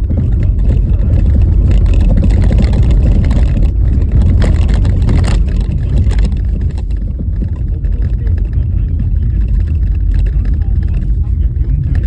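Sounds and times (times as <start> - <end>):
car jolting on bumps: 0.0 - 12.0
tyres rumbling on snowy road: 0.0 - 12.0.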